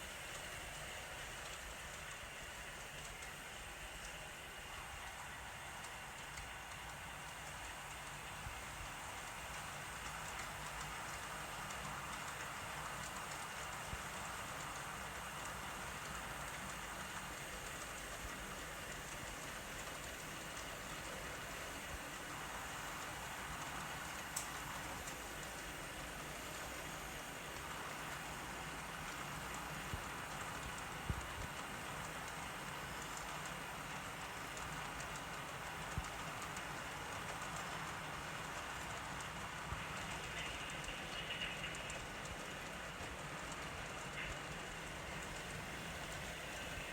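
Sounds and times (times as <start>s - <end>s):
model train running on track: 0.0s - 46.9s.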